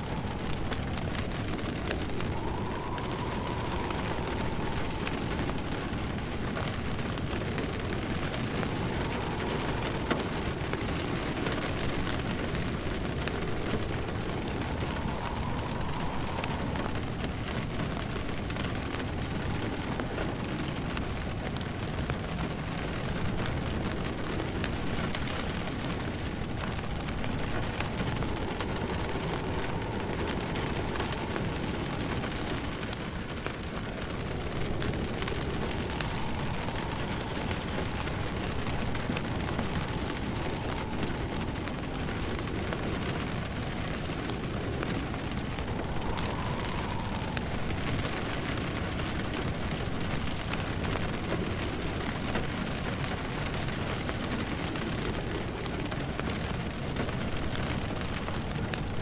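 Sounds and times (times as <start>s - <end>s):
steady rain falling: 0.0s - 59.0s
wood fire crackling: 0.0s - 59.0s.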